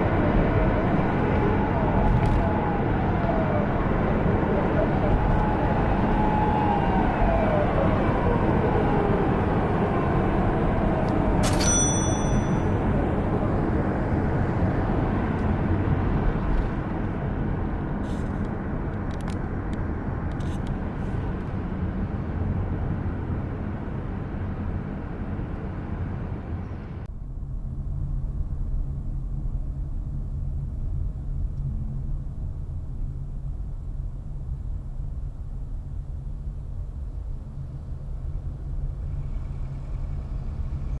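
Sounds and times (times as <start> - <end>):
car tyre and road noise: 0.0 - 41.0.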